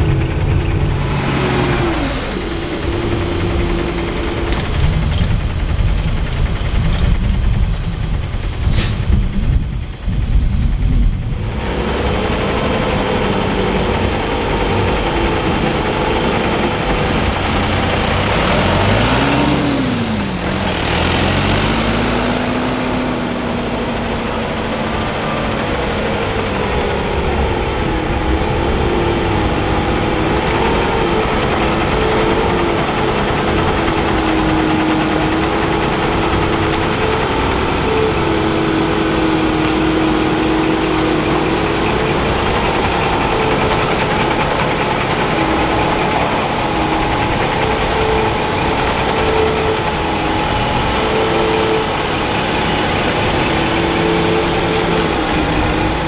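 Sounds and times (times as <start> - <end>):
truck diesel engine: 0.0 - 56.0.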